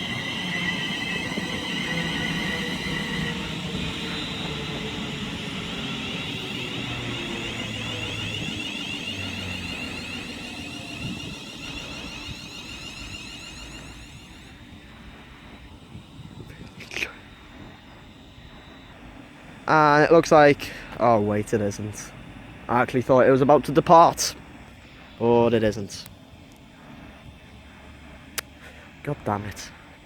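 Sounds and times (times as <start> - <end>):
electric train inverter whine: 0.0 - 30.0.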